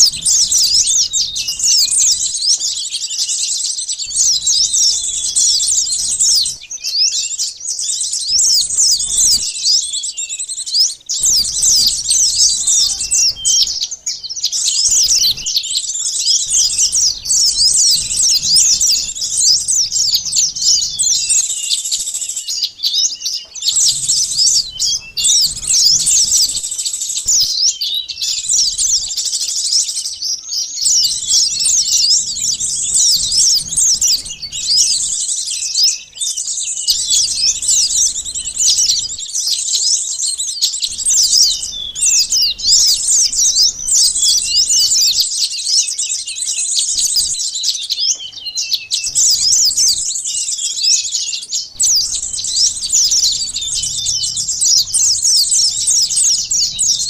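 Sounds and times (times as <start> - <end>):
small birds chattering: 0.0 - 57.0.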